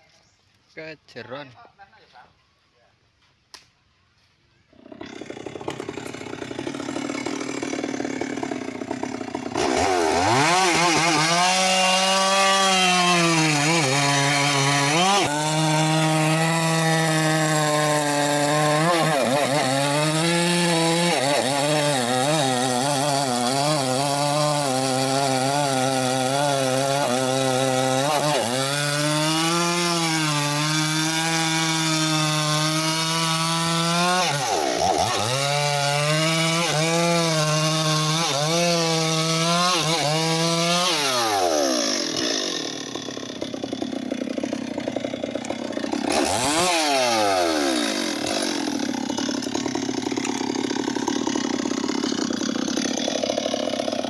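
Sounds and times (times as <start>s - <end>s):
chainsaw cutting log: 4.7s - 54.0s.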